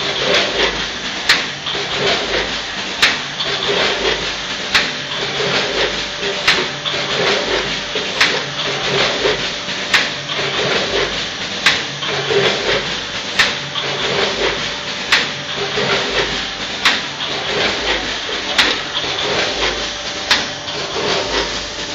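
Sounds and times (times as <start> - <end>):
vibrating feed pans hum: 0.0 - 21.9.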